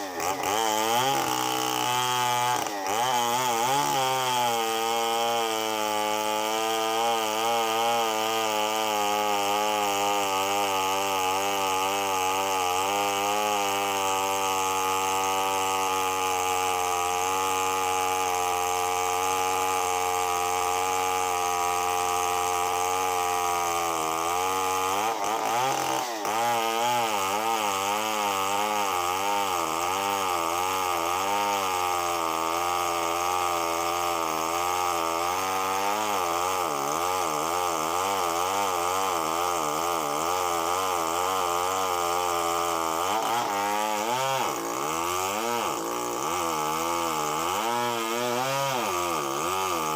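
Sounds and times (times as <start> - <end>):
chainsaw engine running: 0.0 - 49.9.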